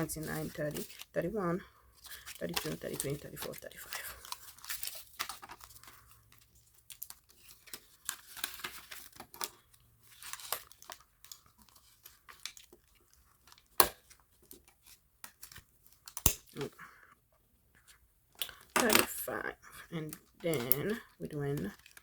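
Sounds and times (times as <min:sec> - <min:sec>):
paper rustling and crinkling: 0:00.0 - 0:17.1, 0:19.8 - 0:22.0.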